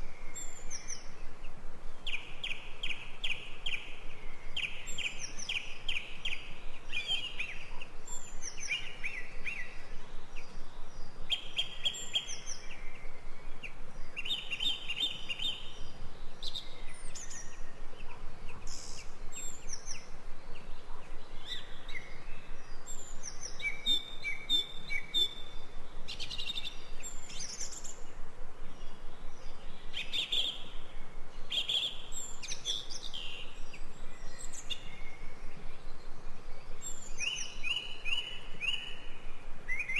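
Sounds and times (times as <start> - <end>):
songbirds singing and chirping: 0.0 - 39.9
steady background hiss: 0.0 - 39.9.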